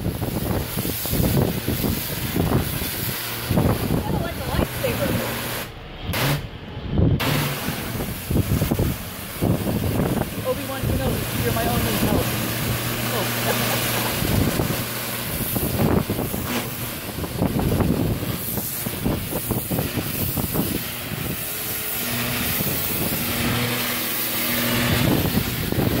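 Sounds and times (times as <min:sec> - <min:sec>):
pressure washer spraying: 0:00.0 - 0:06.6, 0:07.2 - 0:26.0
engine hum: 0:00.0 - 0:26.0.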